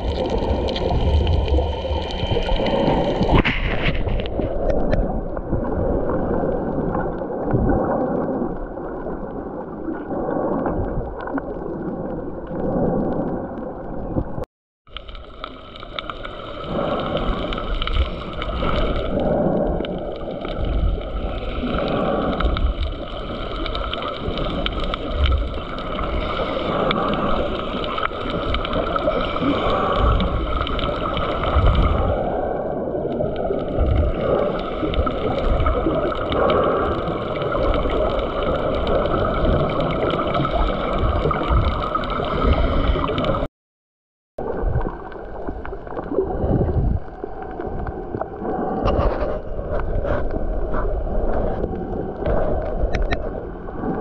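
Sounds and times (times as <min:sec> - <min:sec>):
underwater gurgling water rush: 0:00.0 - 0:43.5, 0:44.4 - 0:54.0.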